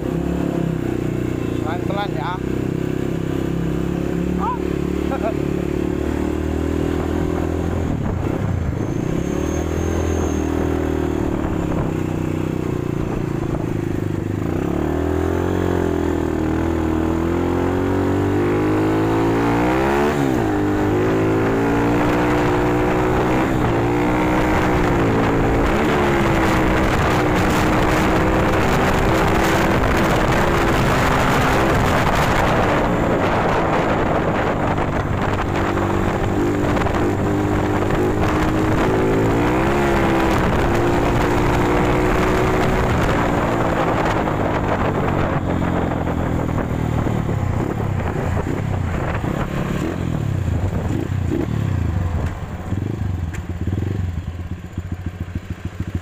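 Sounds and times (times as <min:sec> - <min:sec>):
dirt bike engine accelerating: 0:03.8 - 0:56.0
wind rush: 0:06.5 - 0:15.3, 0:17.0 - 0:54.1.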